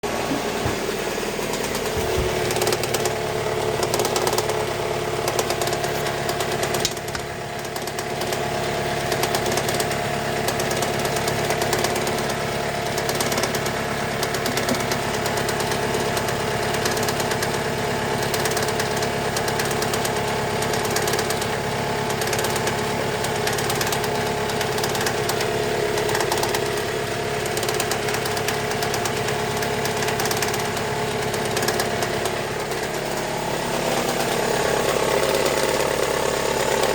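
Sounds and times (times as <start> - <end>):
engine idling with rapid knock: 0.0 - 36.9.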